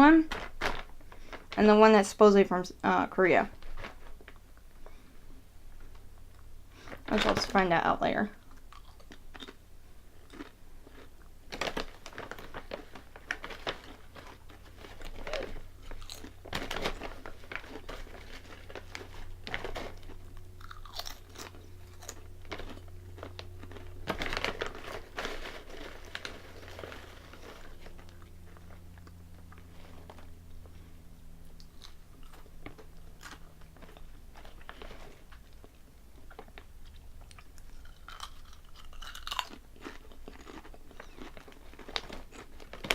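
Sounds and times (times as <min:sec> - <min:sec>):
person crunching potato chips: 0:08.4 - 0:42.9.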